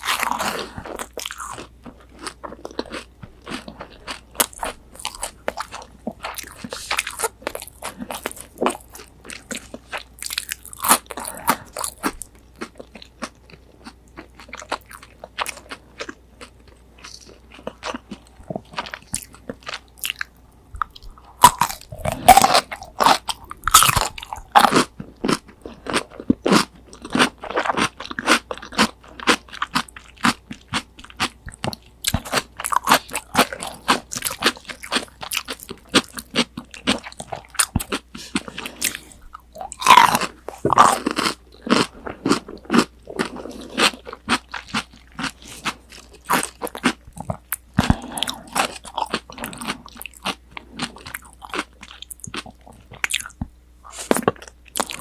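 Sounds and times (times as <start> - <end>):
crunchy chewing of fried food: 0.0 - 55.0.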